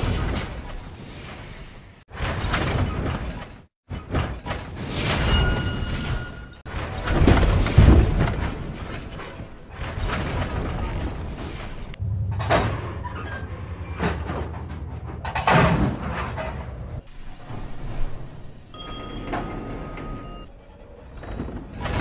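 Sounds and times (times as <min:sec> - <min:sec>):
heavy mechanical clanks and thuds: 0:02.1 - 0:22.0.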